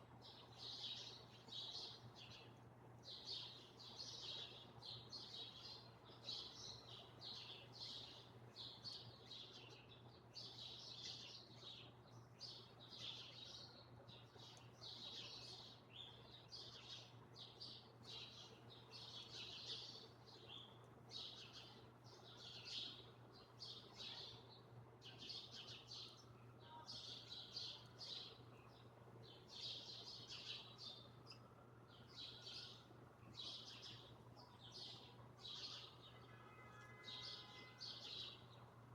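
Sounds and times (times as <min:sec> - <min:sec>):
small birds chirping: 0:00.2 - 0:38.7.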